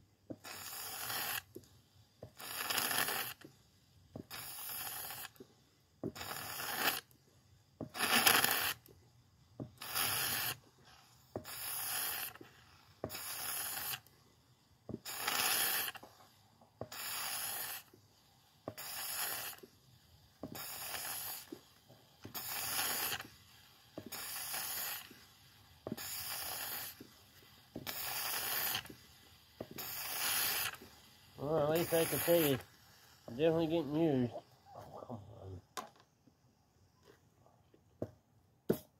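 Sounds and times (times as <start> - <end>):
extractor pump rasping hiss: 0.0 - 37.3, 38.0 - 38.9.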